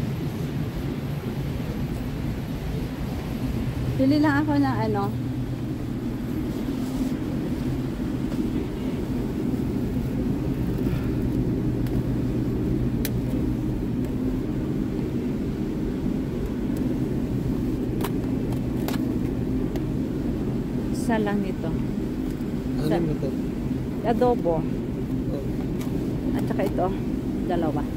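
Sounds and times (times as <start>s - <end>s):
refrigerated cases humming: 0.0s - 27.9s.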